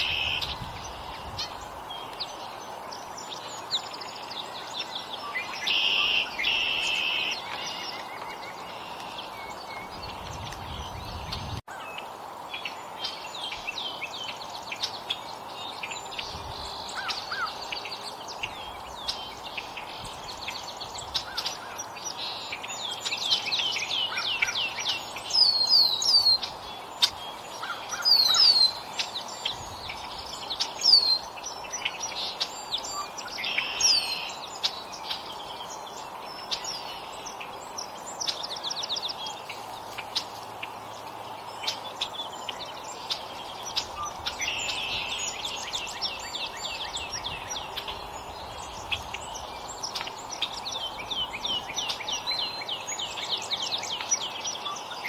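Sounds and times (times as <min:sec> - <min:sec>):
background hiss: 0:00.0 - 0:55.0
songbirds chirping: 0:00.0 - 0:55.0.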